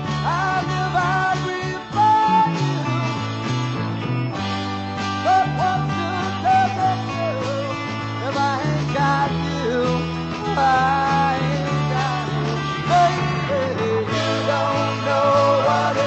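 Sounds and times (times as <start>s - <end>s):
person singing: 0.0s - 3.3s, 5.2s - 16.0s
bass guitar: 0.0s - 16.0s
electric guitar: 0.0s - 16.0s.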